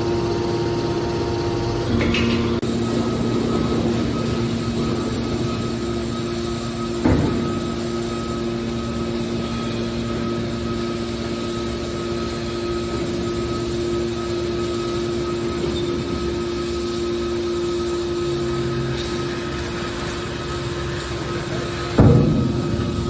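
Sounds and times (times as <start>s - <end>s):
hydraulic baler humming: 0.0s - 23.0s.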